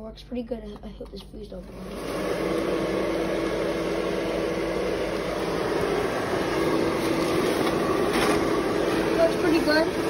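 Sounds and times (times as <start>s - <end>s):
blower fan running: 0.0s - 10.0s.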